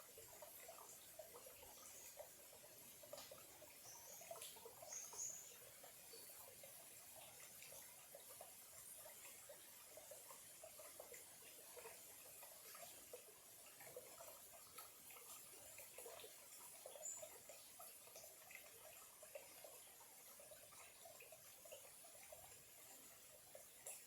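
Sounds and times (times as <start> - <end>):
stream trickling: 0.0 - 24.0.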